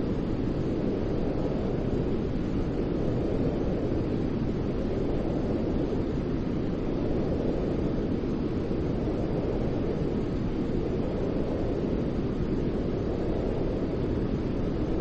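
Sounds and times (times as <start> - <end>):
deep white noise hiss: 0.0 - 15.0.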